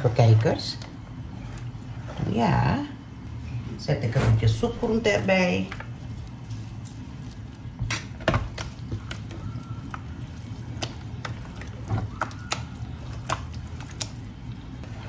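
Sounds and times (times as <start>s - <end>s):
wet mixture squishing: 0.0s - 3.8s, 4.4s - 15.0s
low steady hum: 0.0s - 15.0s.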